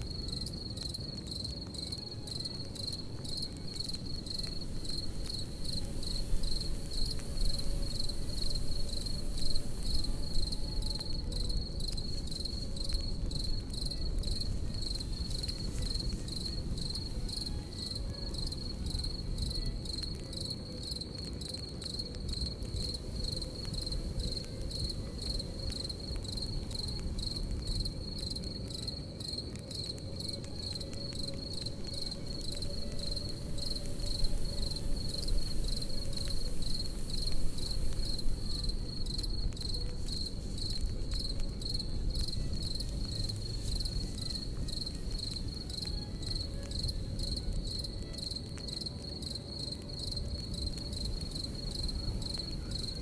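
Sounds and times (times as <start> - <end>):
campfire rumbling and crackling: 0.0 - 53.0
crickets chirping: 0.0 - 53.0.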